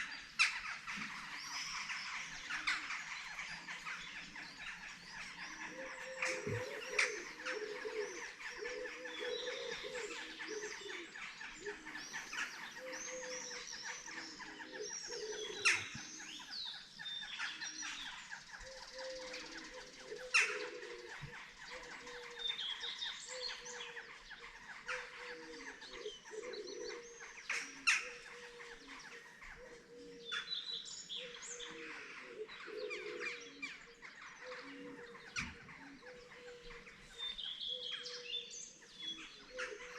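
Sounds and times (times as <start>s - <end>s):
songbirds chirping and trilling: 0.0s - 39.9s
wavering bird calls: 0.0s - 39.9s.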